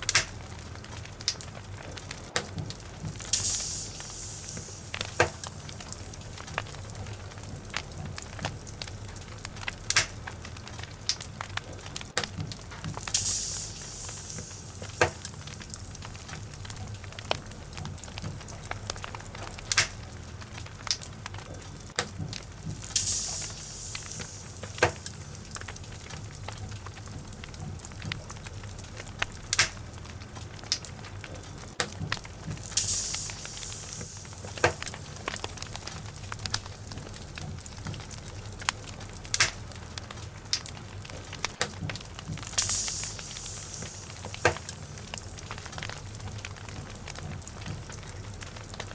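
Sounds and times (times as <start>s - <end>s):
fire crackling and popping: 0.0s - 48.9s
fire rumbling and hissing: 0.0s - 48.9s.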